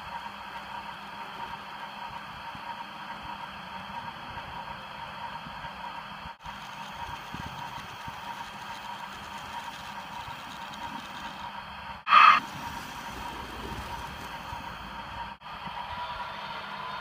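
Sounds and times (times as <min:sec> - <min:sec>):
model train running over points: 0:00.0 - 0:17.0.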